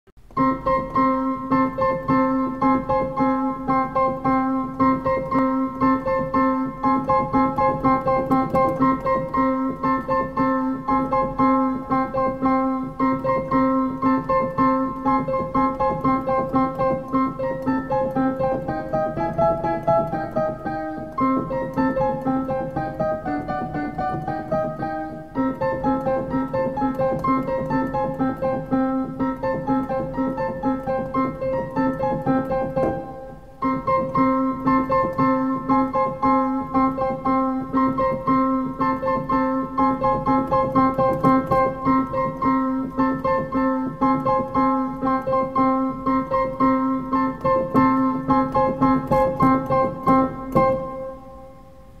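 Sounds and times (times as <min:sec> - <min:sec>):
piano music with repeated notes: 0:00.2 - 0:52.0.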